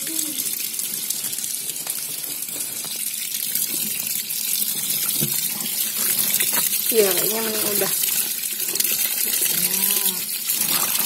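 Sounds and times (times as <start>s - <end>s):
water filling washing machine tub: 0.0s - 11.0s.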